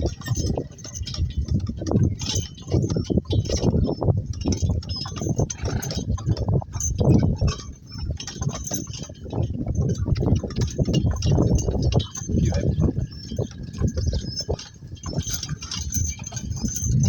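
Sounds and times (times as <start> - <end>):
cart rattling and knocking: 0.0 - 17.0.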